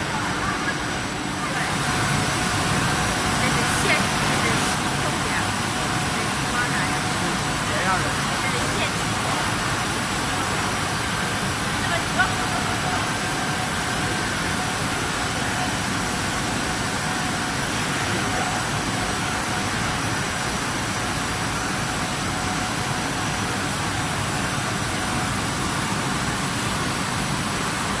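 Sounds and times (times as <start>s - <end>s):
faint high machine whines: 0.0s - 28.0s.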